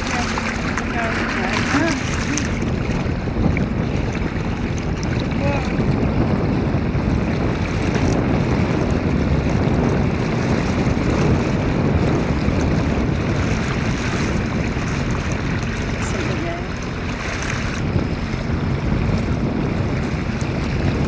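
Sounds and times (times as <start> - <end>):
sea water lapping around boat: 0.0 - 21.0
wind buffeting microphone: 0.0 - 21.0.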